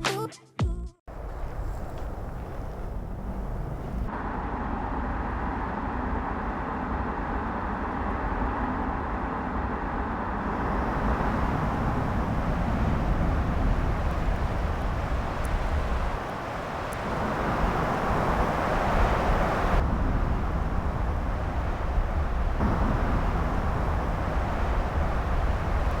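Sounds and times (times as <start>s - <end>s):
road and tyre noise: 1.1s - 26.0s.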